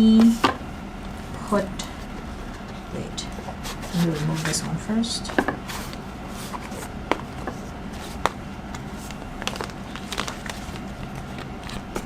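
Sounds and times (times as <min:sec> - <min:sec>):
paper rustling: 0:02.1 - 0:12.0.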